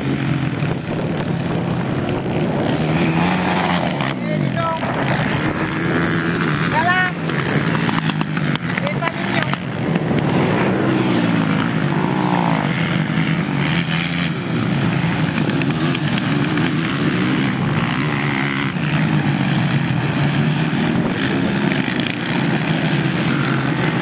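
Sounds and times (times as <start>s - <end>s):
quad bike engines revving: 0.0s - 24.0s.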